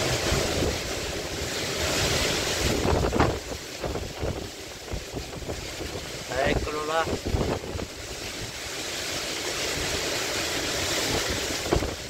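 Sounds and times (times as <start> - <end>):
wind buffeting microphone: 0.0 - 8.7, 9.6 - 12.0
wind gusting through trees: 0.0 - 12.0.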